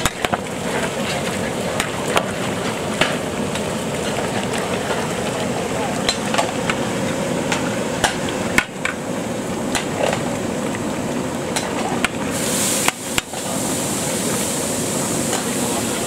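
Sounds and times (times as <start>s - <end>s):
gas burner noise: 0.0s - 16.0s
pot boiling: 0.0s - 16.0s.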